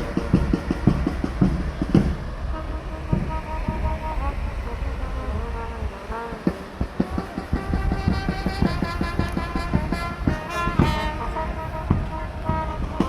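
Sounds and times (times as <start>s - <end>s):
background music with drums: 0.0s - 4.9s, 6.3s - 13.0s.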